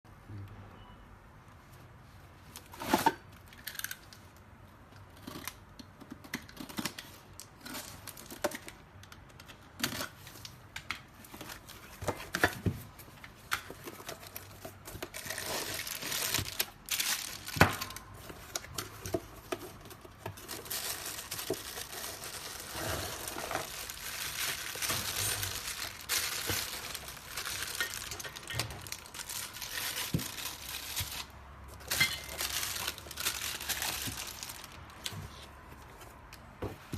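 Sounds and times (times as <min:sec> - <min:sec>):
packaging crinkling and tearing: 0:05.0 - 0:12.6, 0:13.4 - 0:35.6.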